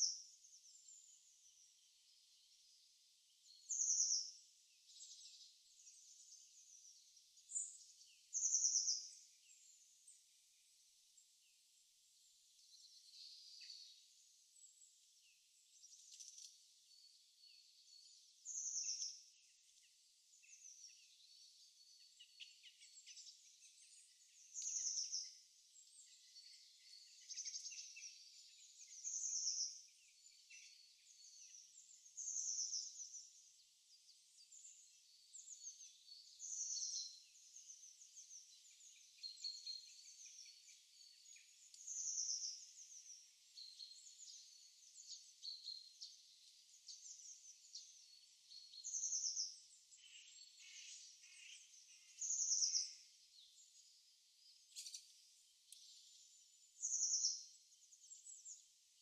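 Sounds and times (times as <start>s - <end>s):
faint bird chirps and twitters: 0.0s - 59.0s.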